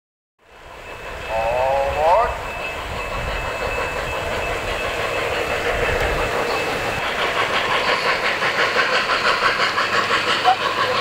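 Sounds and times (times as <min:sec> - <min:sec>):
model steam locomotive chuffing: 0:00.4 - 0:11.0
model train running noise: 0:00.4 - 0:11.0.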